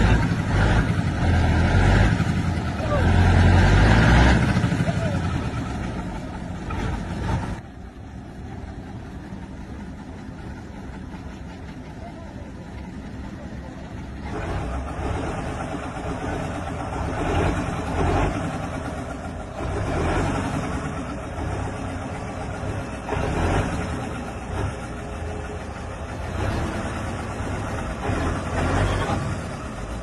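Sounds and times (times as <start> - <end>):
truck diesel engine revving: 0.0 - 7.6, 8.6 - 30.0.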